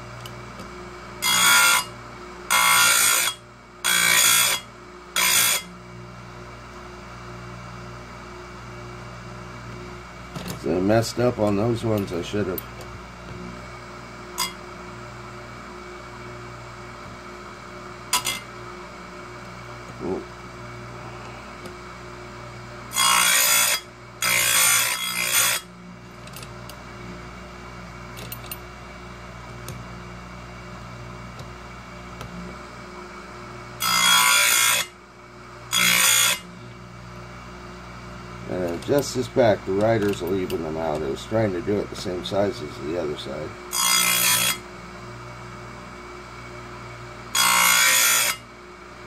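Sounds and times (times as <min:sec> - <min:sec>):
chain grinder motor hum: 0:00.0 - 0:06.1, 0:09.6 - 0:37.0, 0:37.8 - 0:49.0.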